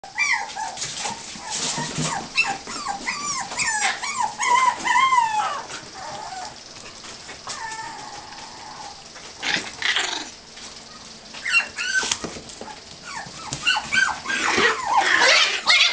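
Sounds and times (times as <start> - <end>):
puppies yipping and whining: 0.0 - 10.3, 10.9 - 15.9.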